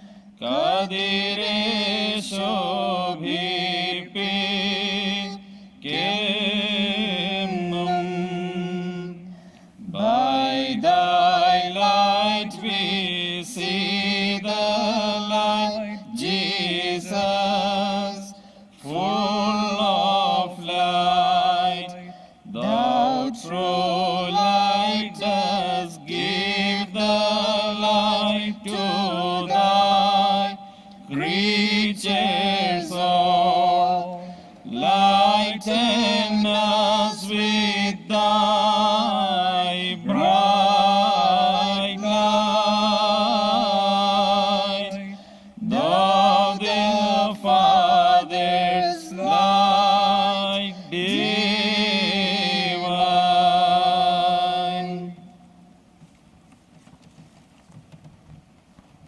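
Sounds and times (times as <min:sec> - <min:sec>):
group chanting a hymn: 0:00.0 - 0:55.7.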